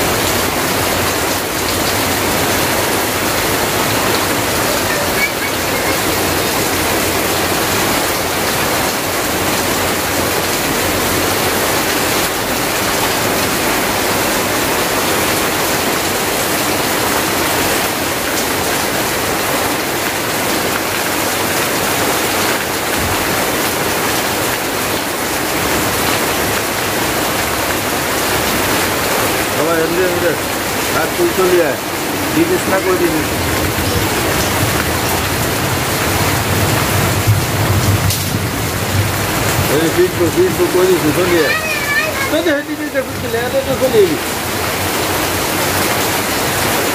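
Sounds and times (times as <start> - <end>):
heavy rain hiss: 0.0 - 46.9
water pouring onto ground: 0.0 - 46.9.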